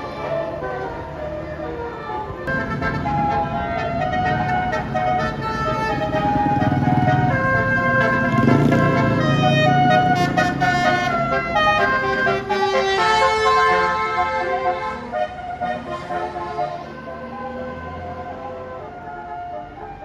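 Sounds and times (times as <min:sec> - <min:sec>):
bus engine rumble: 0:00.0 - 0:20.0
multi-tone bus horn playing a tune: 0:00.0 - 0:20.0.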